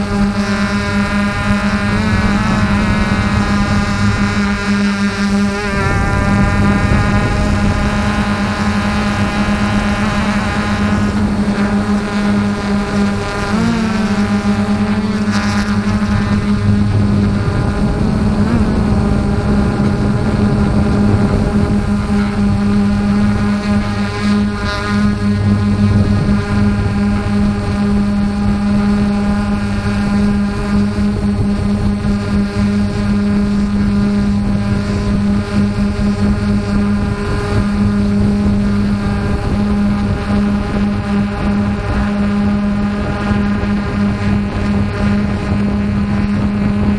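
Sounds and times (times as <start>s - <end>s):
engine droning: 0.0s - 46.9s.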